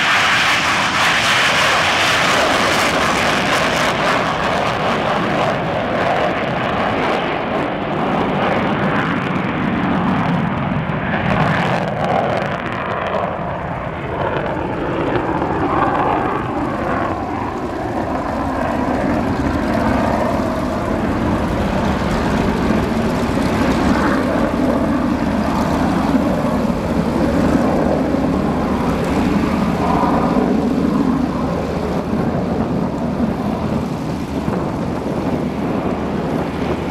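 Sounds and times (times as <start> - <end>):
fighter jet afterburner roar: 0.0 - 36.9.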